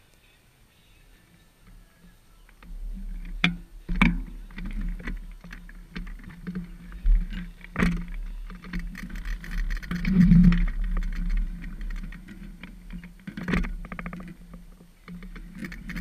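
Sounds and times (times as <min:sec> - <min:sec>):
bicycle chain clicking and rattling: 0:01.6 - 0:16.0
tyres rolling on concrete: 0:01.6 - 0:16.0.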